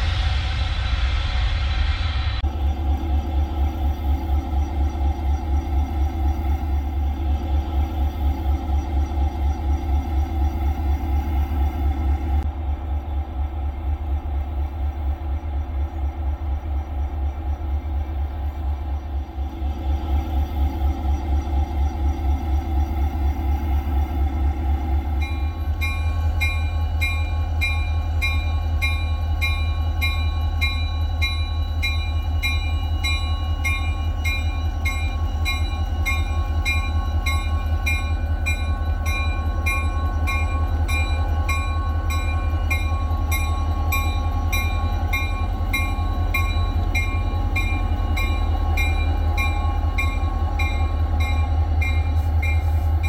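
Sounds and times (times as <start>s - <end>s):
locomotive engine rumbling: 0.0s - 53.0s.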